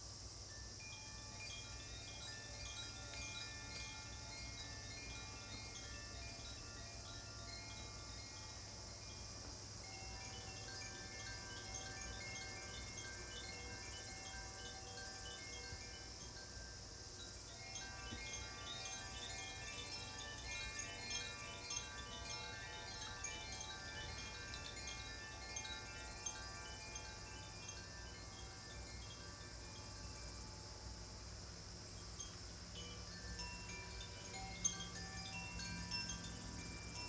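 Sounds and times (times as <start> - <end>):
metal chimes ringing: 0.8 - 30.3, 32.2 - 37.0.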